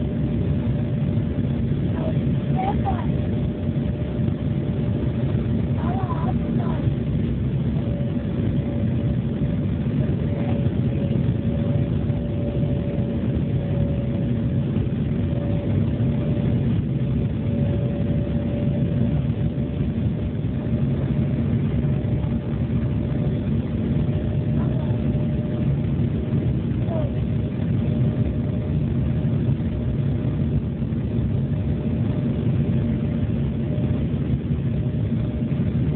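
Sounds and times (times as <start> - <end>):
turbofan engines running: 0.0 - 35.9.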